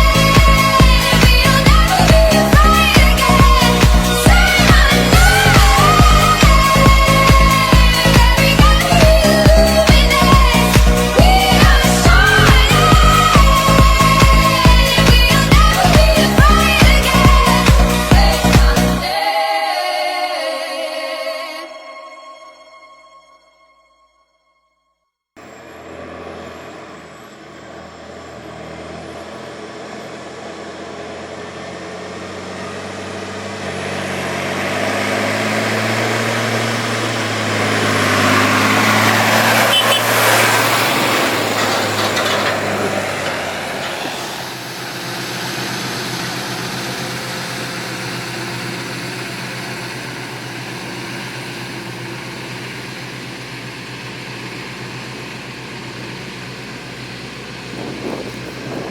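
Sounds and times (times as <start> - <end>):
tractor engine running under load: 0.0 - 19.2, 25.4 - 58.9.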